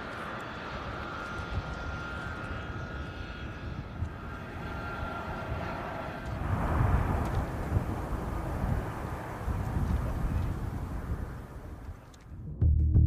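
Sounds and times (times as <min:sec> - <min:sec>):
jet engines whining: 0:00.0 - 0:12.2.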